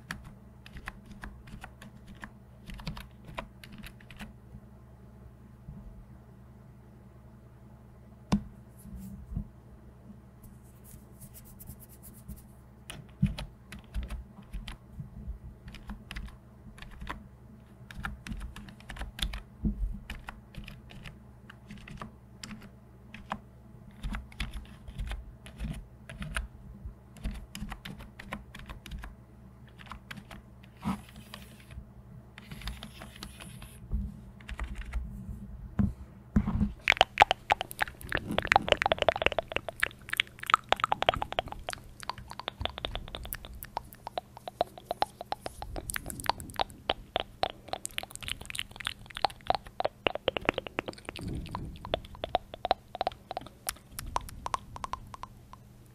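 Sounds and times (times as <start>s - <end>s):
faint low hum: 0.0s - 55.9s.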